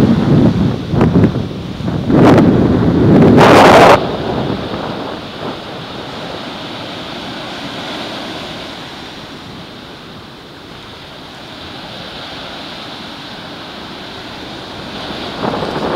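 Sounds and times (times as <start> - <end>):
small waves breaking on shore: 0.0 - 15.9
wind on microphone: 0.0 - 15.9.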